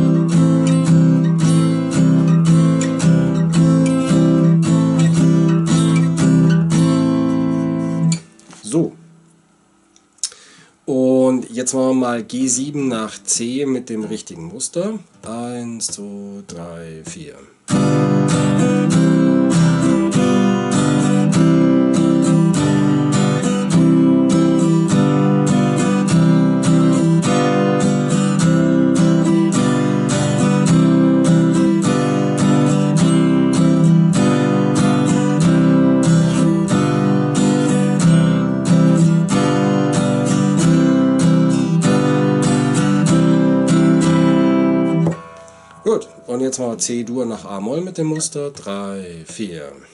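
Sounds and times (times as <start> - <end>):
acoustic guitar strumming: 0.0 - 49.6.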